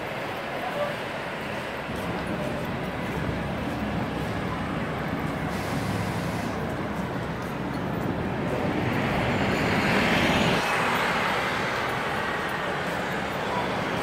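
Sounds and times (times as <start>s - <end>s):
bus driving past: 0.0s - 14.0s
city street traffic: 0.0s - 14.0s.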